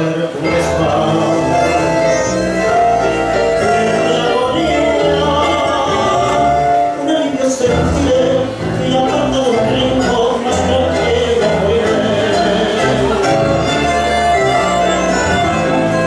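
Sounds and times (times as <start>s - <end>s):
instrumental accompaniment: 0.0s - 16.0s
man singing a tango: 0.0s - 16.0s.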